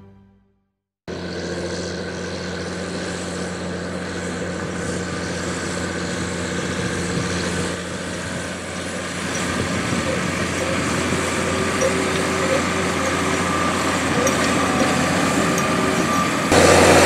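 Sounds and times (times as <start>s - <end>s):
baler working: 1.1s - 17.0s
tractor engine running: 1.1s - 17.0s.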